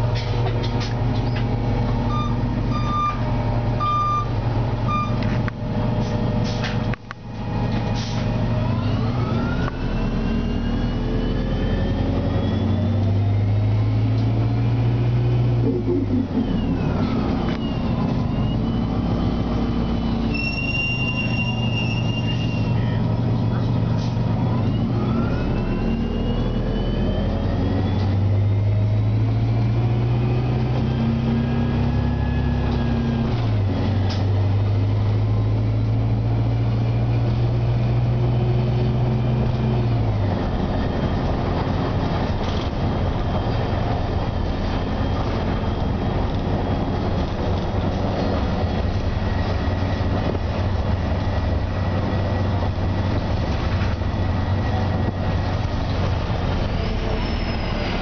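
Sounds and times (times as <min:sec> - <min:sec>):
bus engine pulling hard: 0:00.0 - 0:58.0
road and cabin rumble: 0:00.0 - 0:58.0.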